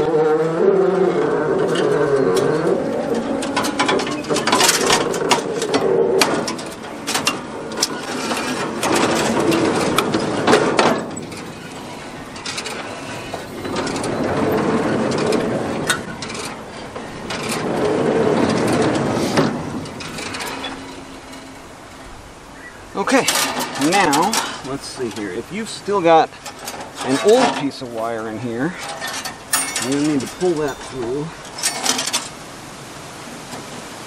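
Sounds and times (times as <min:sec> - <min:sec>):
baler chain and gears clanking: 0:00.0 - 0:32.4.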